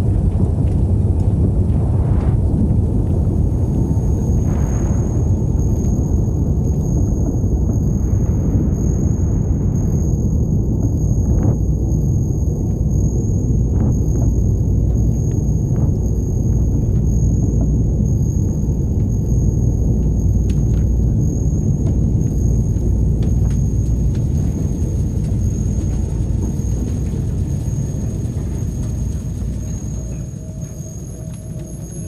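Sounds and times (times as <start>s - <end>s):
low rumbling drone: 0.0s - 32.0s
thin high whine: 1.6s - 32.0s.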